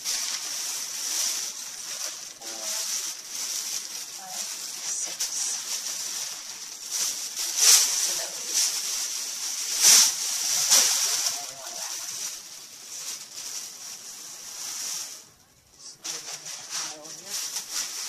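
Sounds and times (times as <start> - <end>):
packaging crinkling: 0.0 - 18.0
steady hiss: 0.0 - 18.0.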